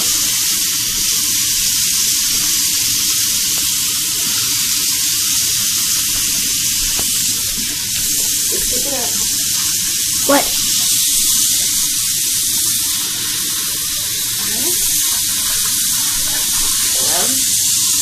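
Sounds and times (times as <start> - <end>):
faucet water running and splashing: 0.0 - 18.0.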